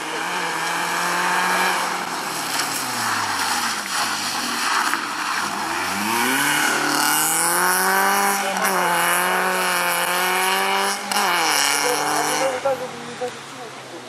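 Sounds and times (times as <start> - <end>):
car engine revving hard: 0.0 - 12.8.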